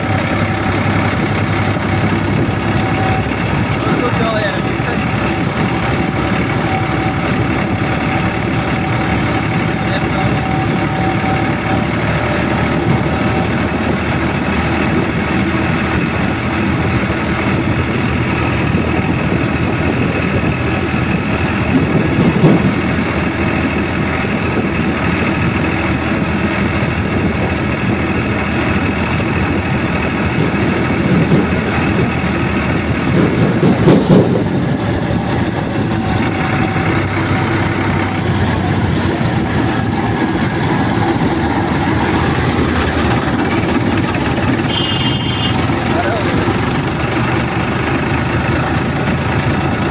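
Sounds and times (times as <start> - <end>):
road noise: 0.0 - 49.9
vehicle engine hum: 0.0 - 49.9.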